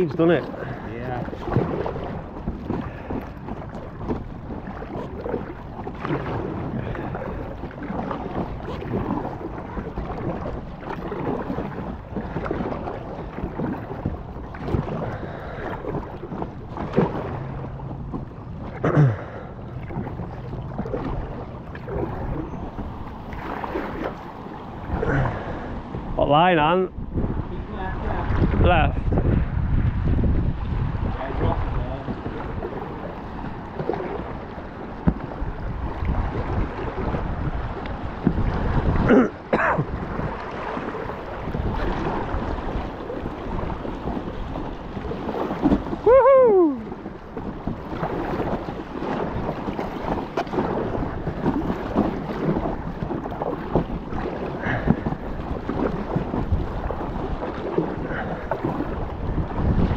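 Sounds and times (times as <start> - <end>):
paddle splashes: 0.0 - 59.9
water lapping around kayak: 0.0 - 59.9
wind buffeting microphone: 0.0 - 59.9.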